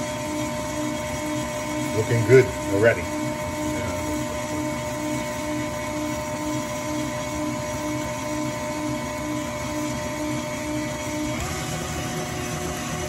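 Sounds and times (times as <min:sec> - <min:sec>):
stand mixer running: 0:00.0 - 0:13.0.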